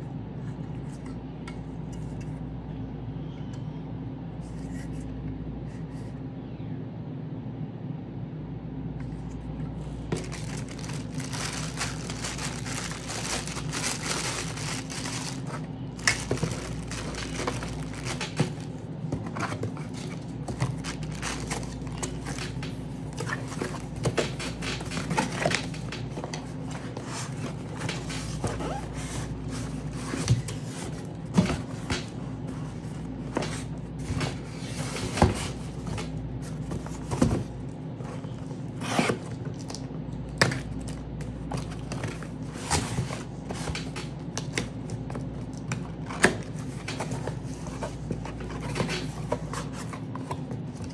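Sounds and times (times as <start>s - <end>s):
steady low hum: 0.0s - 50.9s
handling scraping and crinkling: 9.0s - 50.9s.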